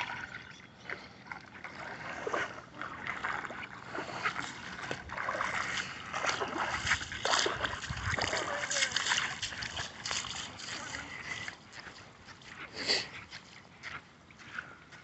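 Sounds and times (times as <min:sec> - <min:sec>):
footsteps splashing through water: 0:00.0 - 0:15.0.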